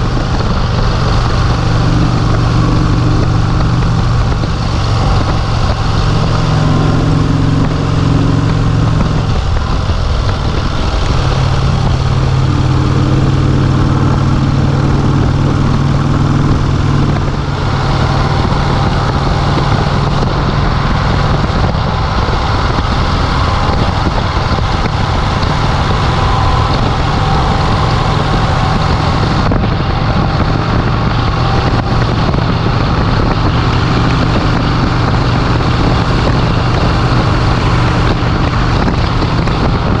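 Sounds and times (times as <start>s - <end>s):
motorcycle engine running: 0.0s - 40.0s
wind rush: 0.0s - 40.0s.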